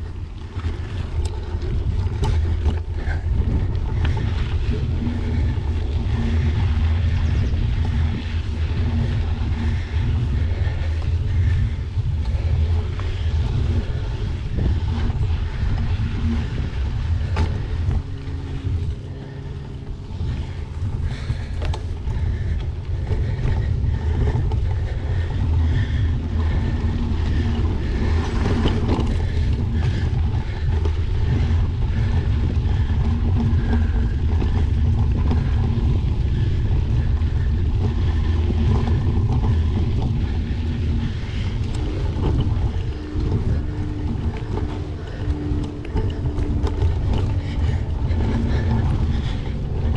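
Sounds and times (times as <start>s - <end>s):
bike rumbling and rattling: 0.0s - 49.9s
wind buffeting microphone: 0.0s - 49.9s.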